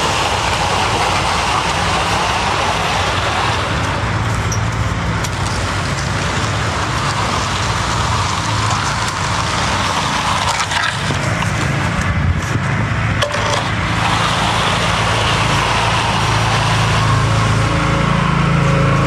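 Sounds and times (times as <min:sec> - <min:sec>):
scraping and knocking: 0:00.0 - 0:12.2, 0:13.2 - 0:16.9
engine running steadily: 0:00.0 - 0:19.0.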